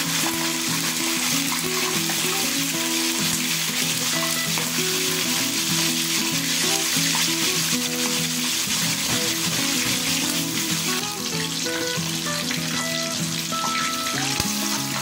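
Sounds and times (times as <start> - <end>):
background music: 0.0 - 15.0
fish sizzling in hot oil: 0.0 - 15.0.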